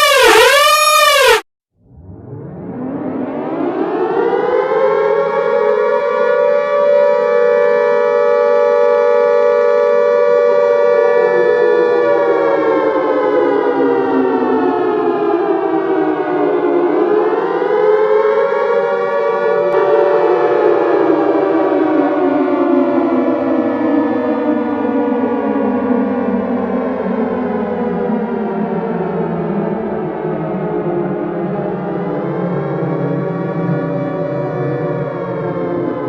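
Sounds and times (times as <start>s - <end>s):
emergency siren wailing: 0.0s - 36.0s.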